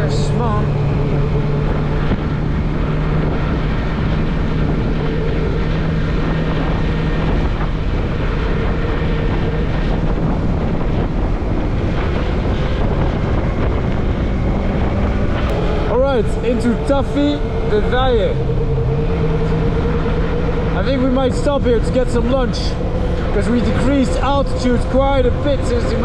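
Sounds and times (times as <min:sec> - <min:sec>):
motorcycle engine cruising: 0:00.0 - 0:26.0
wind noise on microphone: 0:00.0 - 0:26.0.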